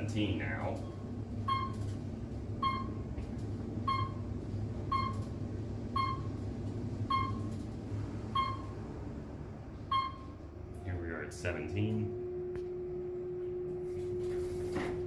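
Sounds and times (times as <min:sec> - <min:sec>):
low hum of elevator moving: 0:00.0 - 0:15.0
elevator floor beeps: 0:00.7 - 0:09.0, 0:09.8 - 0:14.8.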